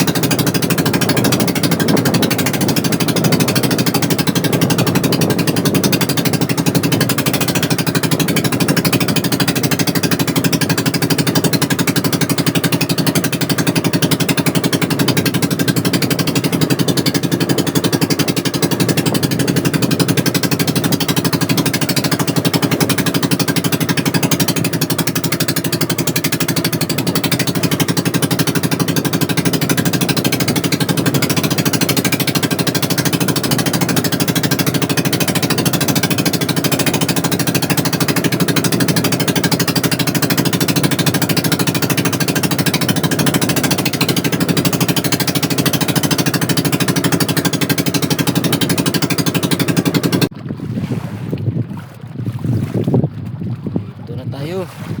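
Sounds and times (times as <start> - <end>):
small engine knocking steadily: 0.0 - 50.3.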